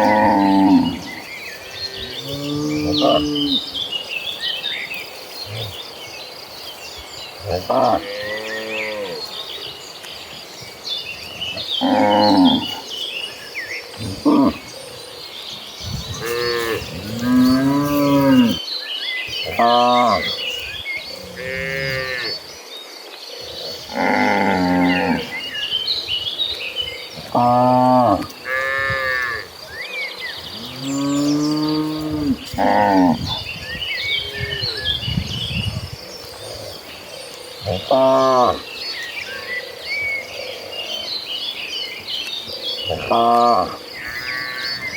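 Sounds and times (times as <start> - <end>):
birds chirping: 0.0 - 44.9
insects buzzing: 0.0 - 44.9.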